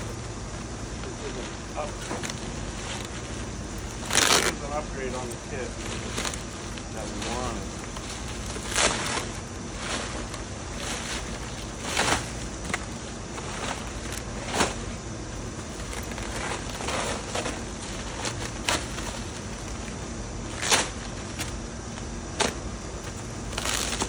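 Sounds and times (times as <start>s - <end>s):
low background rumble: 0.0s - 24.0s
plastic and paper crinkling: 0.6s - 24.0s.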